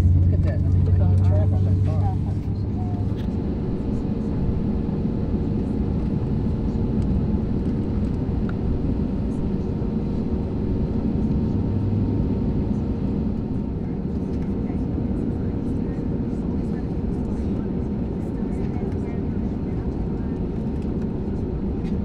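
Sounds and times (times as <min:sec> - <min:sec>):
aircraft cabin rumble: 0:00.0 - 0:22.0.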